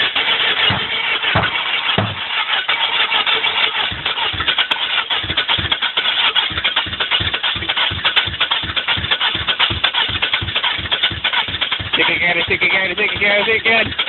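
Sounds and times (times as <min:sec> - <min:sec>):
car engine cranking: 0:00.0 - 0:14.0.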